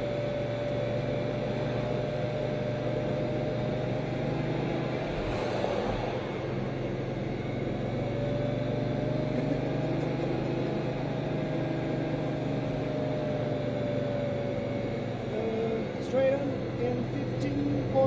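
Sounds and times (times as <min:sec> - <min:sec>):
car engine droning: 0:00.0 - 0:18.0
road noise: 0:00.0 - 0:18.0.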